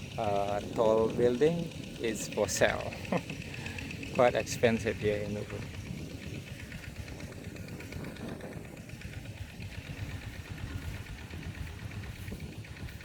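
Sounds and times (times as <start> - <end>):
small engine running at low revs: 0.0 - 13.0.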